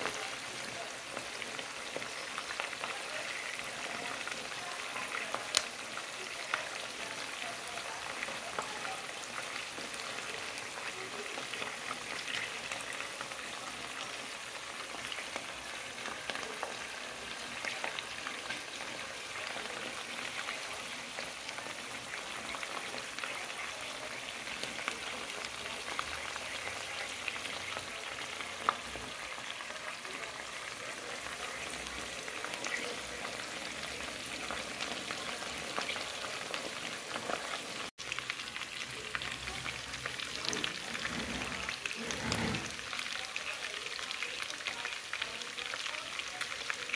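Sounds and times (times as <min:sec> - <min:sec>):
chicken frying in oil: 0:00.0 - 0:46.9.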